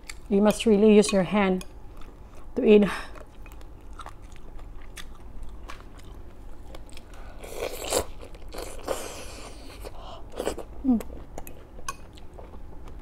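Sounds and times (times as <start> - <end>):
chewing crispy food: 1.8 - 13.0.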